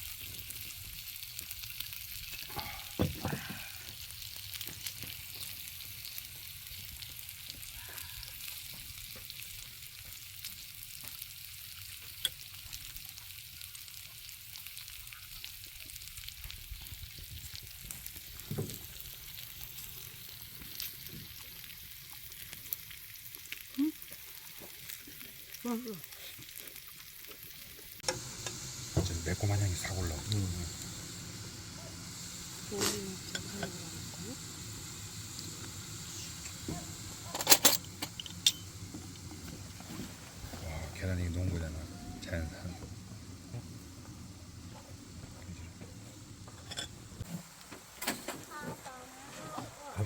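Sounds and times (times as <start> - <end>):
rice sizzling in a pan: 0.0 - 50.0.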